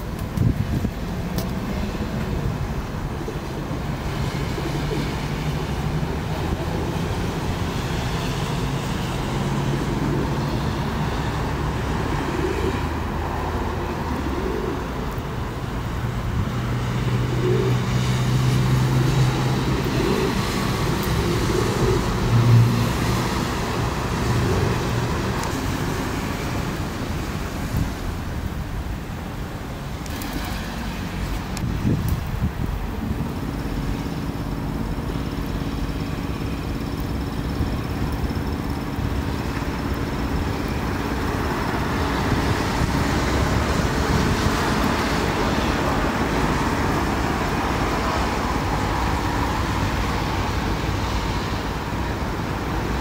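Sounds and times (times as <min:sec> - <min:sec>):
city road traffic passing: 0:00.0 - 0:53.0.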